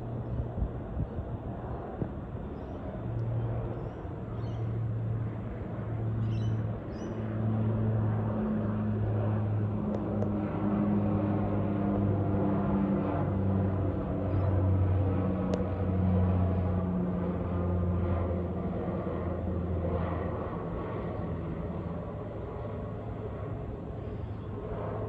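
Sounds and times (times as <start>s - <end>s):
low engine drone: 0.0s - 25.0s.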